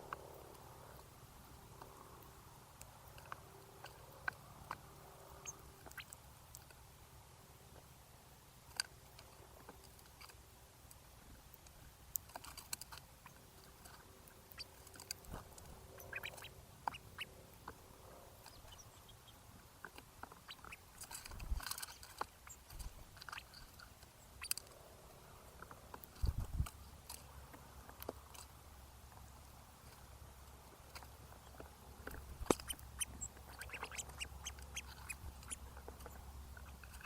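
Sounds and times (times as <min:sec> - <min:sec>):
birds pecking and cracking seeds: 0:00.0 - 0:37.0.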